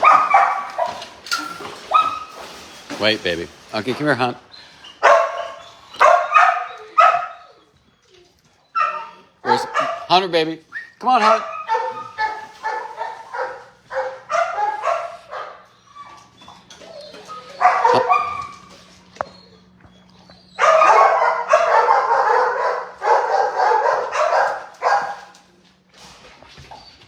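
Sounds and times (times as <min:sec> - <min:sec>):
dogs barking and yipping: 0:00.0 - 0:03.9, 0:04.5 - 0:27.0.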